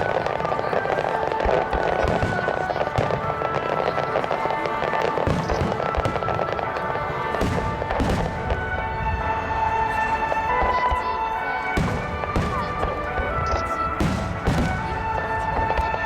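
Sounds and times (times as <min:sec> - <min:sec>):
fireworks bangs and thuds: 0:00.0 - 0:16.0
fireworks crackling: 0:00.0 - 0:16.0
music playing: 0:00.0 - 0:16.0.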